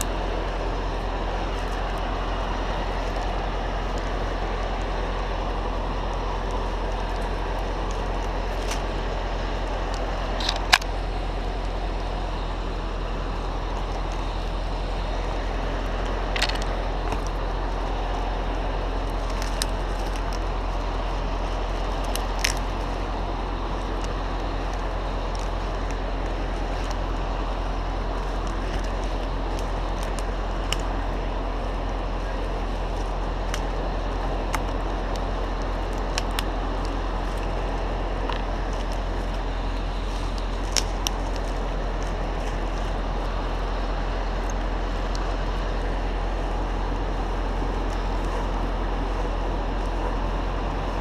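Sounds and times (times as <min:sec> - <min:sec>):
sharp clicks and ticks: 0:00.0 - 0:12.1, 0:13.4 - 0:45.9
heavy engine running: 0:00.0 - 0:51.0.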